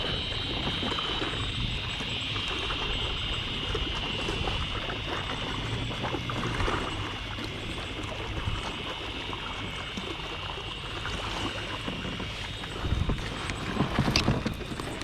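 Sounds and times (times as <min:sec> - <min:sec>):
water splashing against kayak hull: 0:00.0 - 0:15.0.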